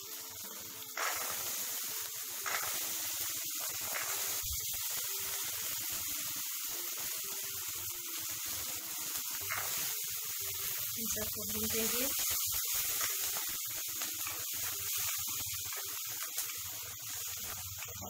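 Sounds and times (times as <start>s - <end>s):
vegetables sizzling in pan: 0.0s - 18.0s.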